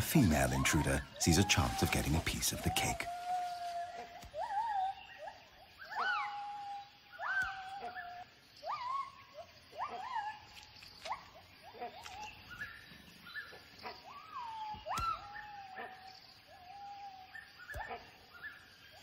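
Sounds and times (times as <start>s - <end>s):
gibbons whooping calls: 0.0s - 12.6s, 13.9s - 19.0s.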